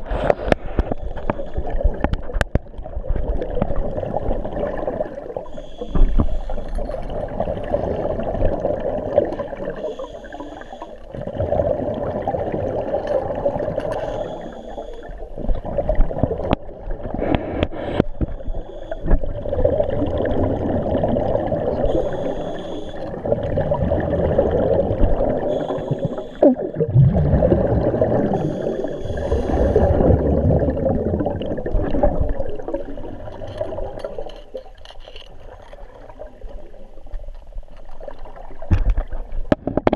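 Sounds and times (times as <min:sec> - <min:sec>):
regulator bubbles underwater: 0:00.0 - 0:34.8, 0:35.4 - 0:39.9.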